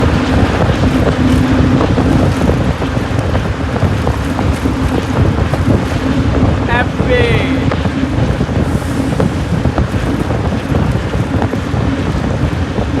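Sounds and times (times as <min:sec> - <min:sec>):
vehicle rumble: 0:00.0 - 0:13.0
wind buffeting microphone: 0:00.0 - 0:13.0.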